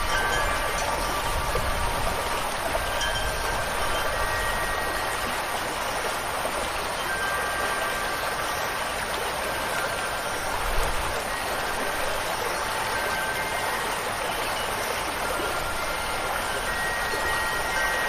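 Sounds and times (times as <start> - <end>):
faint wind chime tones: 0.0 - 18.0
rushing water: 0.0 - 18.0.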